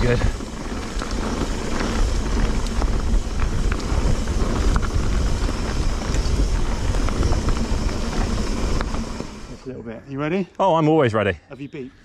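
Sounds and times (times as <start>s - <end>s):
bike tyres rumbling on dirt: 0.0s - 9.8s
wind buffeting microphone: 0.0s - 10.0s.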